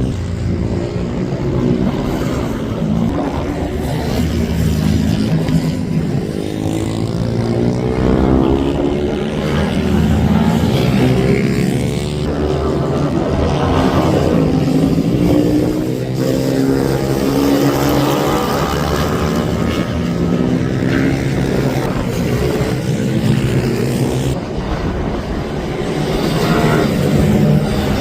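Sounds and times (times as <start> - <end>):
racing minibike engines revving: 0.0 - 28.0.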